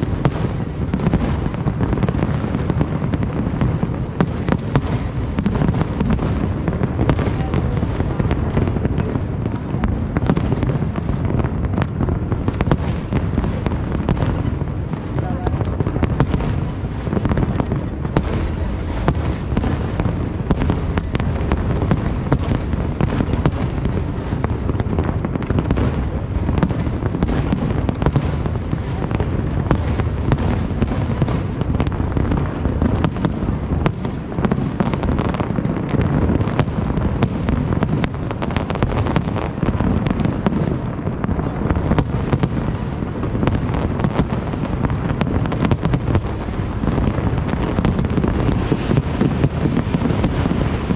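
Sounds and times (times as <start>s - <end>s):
fireworks booming: 0.0s - 50.9s
fireworks cracks and pops: 0.0s - 50.9s.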